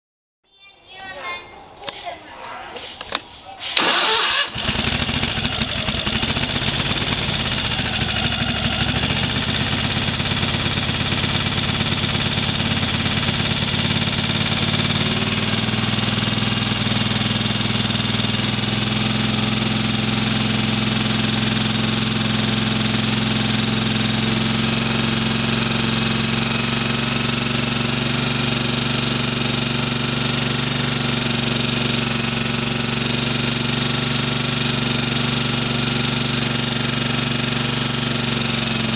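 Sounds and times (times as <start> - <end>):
engine running steadily: 3.8 - 38.9.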